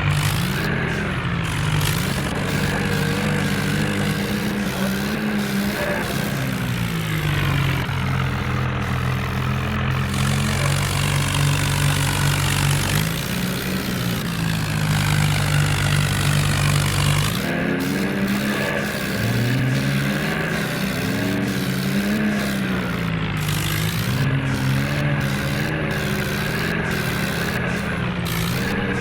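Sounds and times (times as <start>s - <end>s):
tractor diesel engines running: 0.0s - 29.0s.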